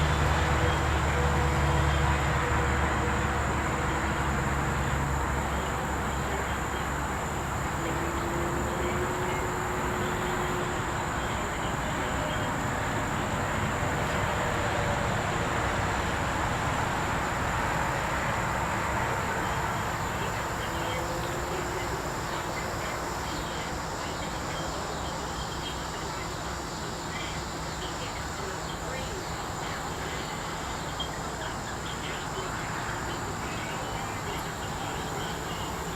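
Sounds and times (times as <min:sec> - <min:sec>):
insect chorus: 0:00.0 - 0:35.9.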